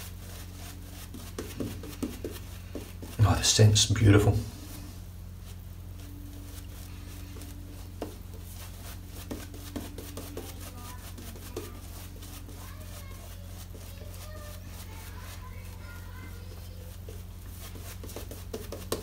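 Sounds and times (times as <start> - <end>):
shaving brush scratchy crackle: 0.0 - 19.0
steady low hum: 0.0 - 19.0.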